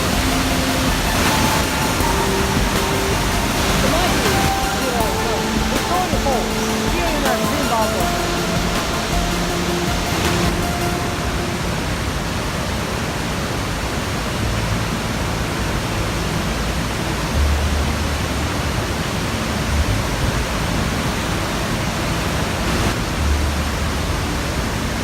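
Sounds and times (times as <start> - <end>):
low rumble: 0.0 - 25.0
waterfall roaring: 0.0 - 25.0.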